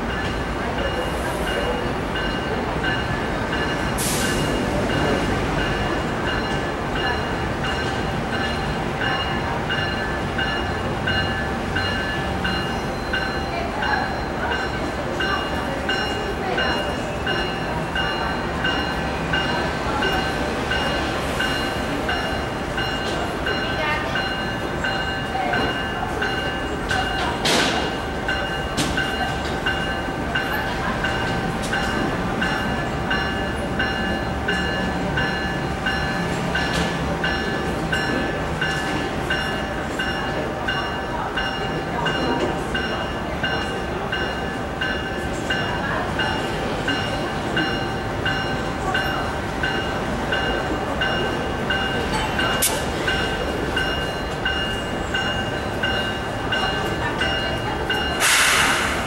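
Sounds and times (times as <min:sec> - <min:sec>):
wheels clanking on rails: 0:00.0 - 0:59.0.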